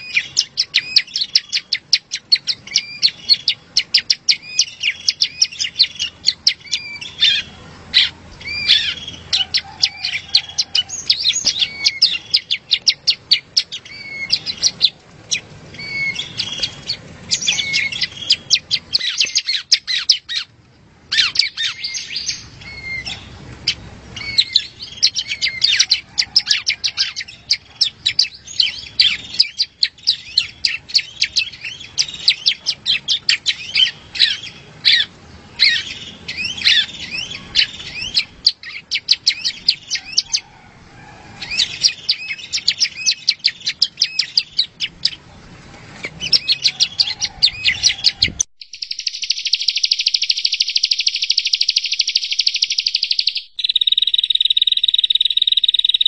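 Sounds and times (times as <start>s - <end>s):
warbler singing rapid chatter: 0.0s - 40.5s, 41.4s - 45.4s, 46.0s - 56.0s.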